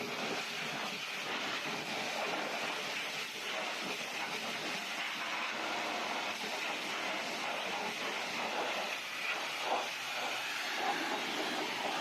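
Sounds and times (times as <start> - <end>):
car wash spray hissing: 0.0 - 12.0.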